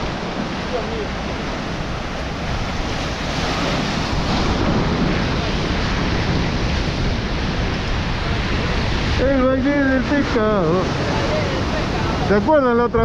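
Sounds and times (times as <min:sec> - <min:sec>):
sea surf breaking on rocks: 0:00.0 - 0:13.0
wind buffeting microphone: 0:00.0 - 0:13.0.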